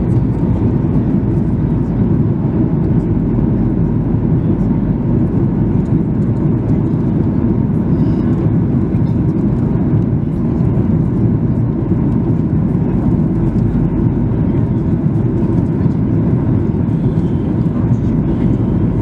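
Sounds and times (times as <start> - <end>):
airflow over wing: 0.0 - 19.0
airplane cabin engine roar: 0.0 - 19.0.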